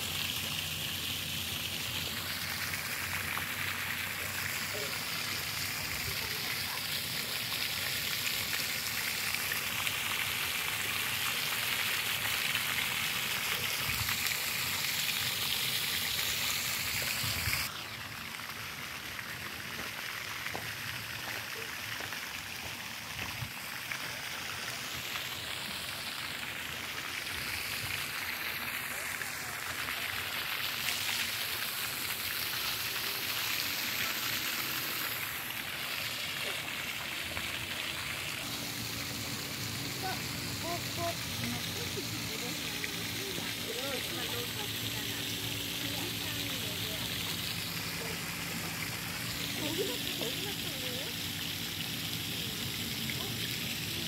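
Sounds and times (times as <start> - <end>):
fountain spray hissing onto water: 0.0 - 54.0.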